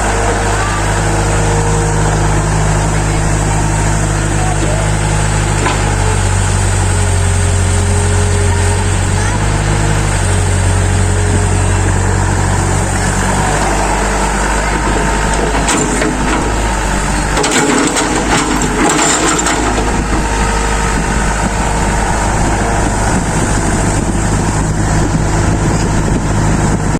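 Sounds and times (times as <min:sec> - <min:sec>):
excavator engine running: 0:00.0 - 0:26.9.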